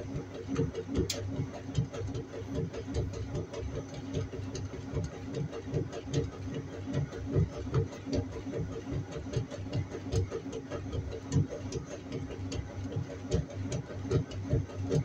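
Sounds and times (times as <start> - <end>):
washing machine hum: 0.0 - 15.0.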